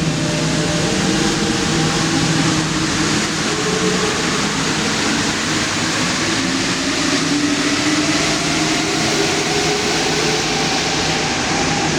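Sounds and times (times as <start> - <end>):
train rumbling at platform: 0.0 - 11.9.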